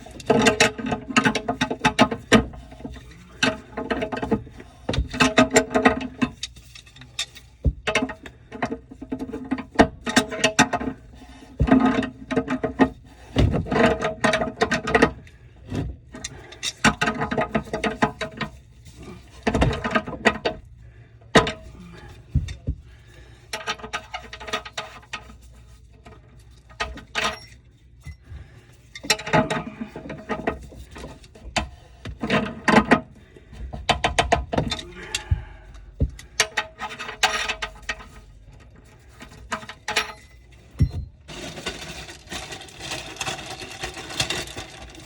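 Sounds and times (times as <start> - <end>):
tools and plumbing parts clanking: 0.0 - 45.0.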